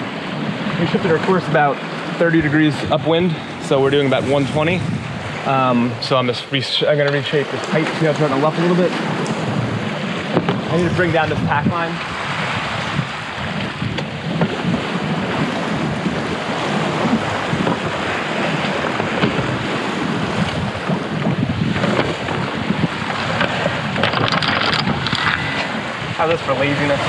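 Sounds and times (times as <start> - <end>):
wind noise on microphone: 0.0 - 6.3, 7.4 - 27.0
water rushing along hull: 0.0 - 27.0.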